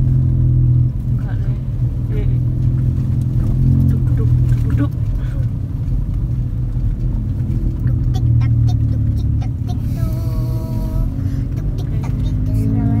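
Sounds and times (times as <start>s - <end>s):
car rumbling over rough road: 0.0s - 13.0s.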